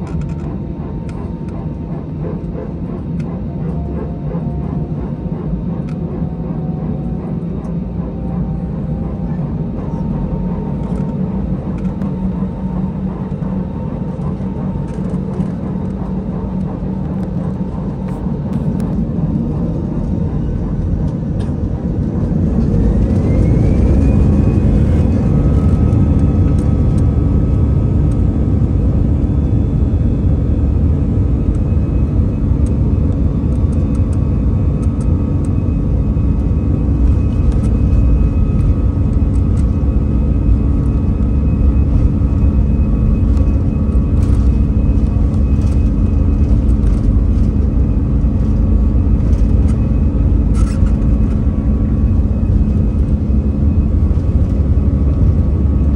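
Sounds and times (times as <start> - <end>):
jet engine whine: 0.0 - 55.9
takeoff roll rumble: 0.0 - 55.9.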